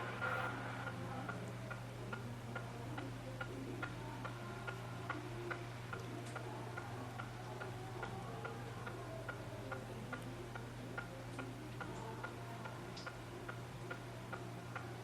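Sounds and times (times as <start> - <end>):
low steady hum: 0.0 - 15.0
steady ticking: 0.0 - 15.0.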